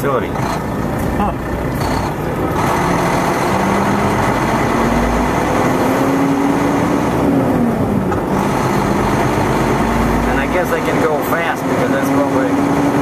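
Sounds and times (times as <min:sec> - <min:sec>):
truck diesel engine driving: 0:00.0 - 0:13.0.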